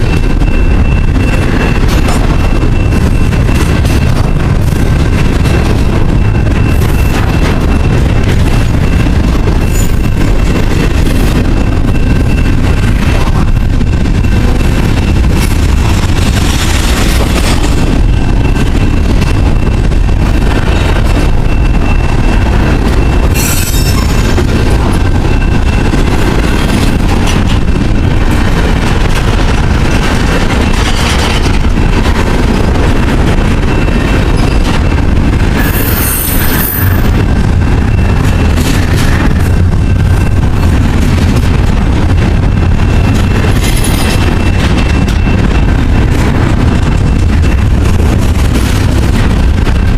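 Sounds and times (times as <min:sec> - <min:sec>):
freight train rumbling past: 0:00.0 - 0:49.9
train wheel squeal: 0:00.0 - 0:49.9.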